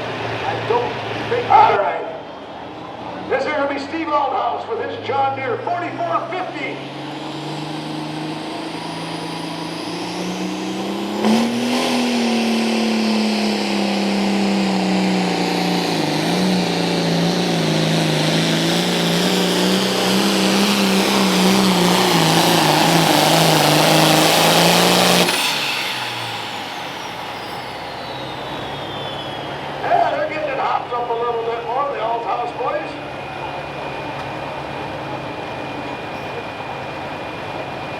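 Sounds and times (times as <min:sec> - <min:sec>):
tractor diesel engine at full throttle: 0:00.0 - 0:37.9.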